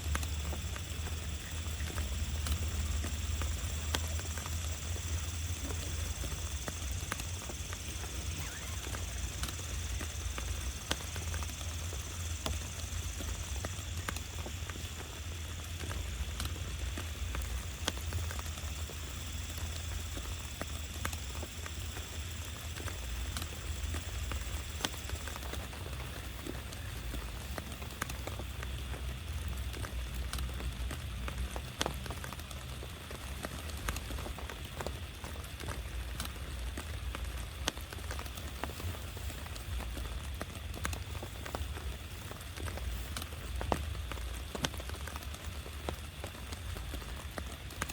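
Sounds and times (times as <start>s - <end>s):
low rumble of rain: 0.0s - 47.9s
raindrops tapping: 0.0s - 47.9s.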